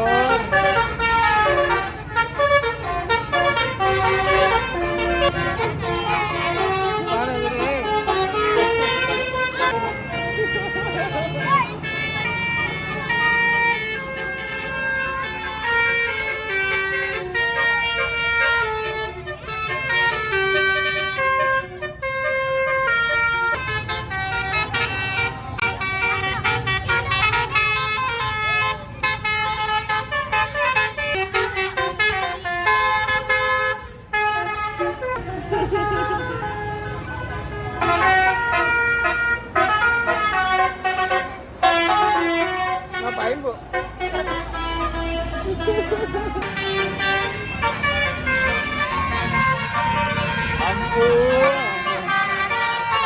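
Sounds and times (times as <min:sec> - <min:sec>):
engine and traffic rumble: 0:00.0 - 0:53.0
musical bus horn playing tune: 0:00.0 - 0:53.0.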